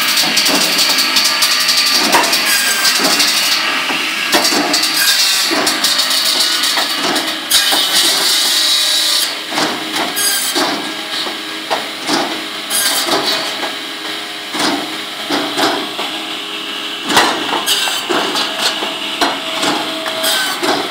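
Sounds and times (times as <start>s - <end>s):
circular saw cutting wood: 0.0s - 20.9s.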